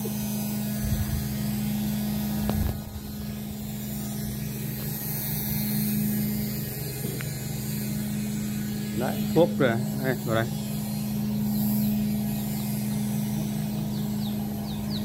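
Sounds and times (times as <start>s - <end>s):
low hum of aerators: 0.0s - 15.0s.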